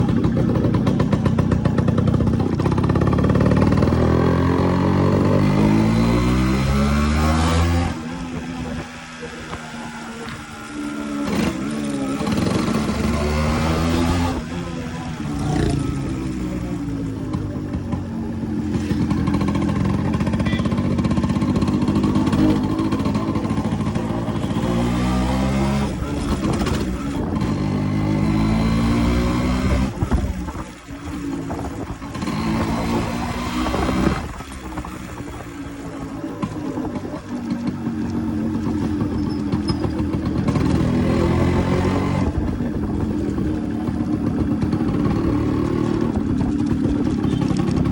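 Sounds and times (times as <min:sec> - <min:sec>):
two-stroke motorcycle engine revving: 0:00.0 - 0:47.9.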